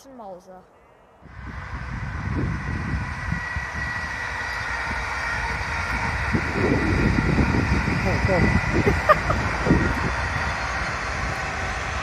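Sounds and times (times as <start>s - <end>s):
distant electric train passing: 0.0s - 12.0s
wind buffeting microphone: 1.2s - 12.0s.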